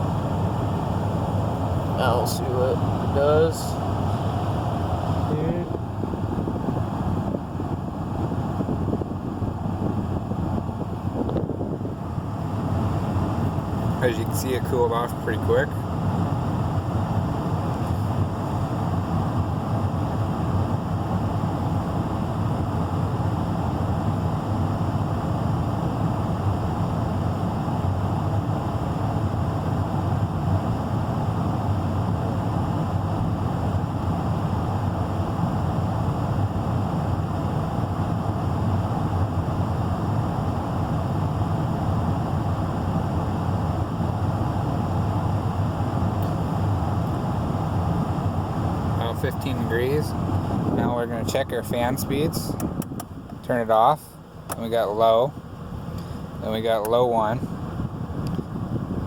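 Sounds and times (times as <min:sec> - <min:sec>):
car blower fan rushing air: 0:00.0 - 0:59.0.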